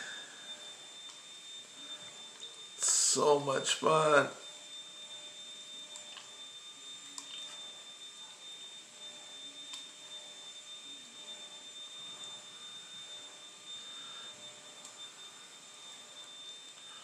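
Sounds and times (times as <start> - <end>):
thin high whine: 0.0 - 17.0.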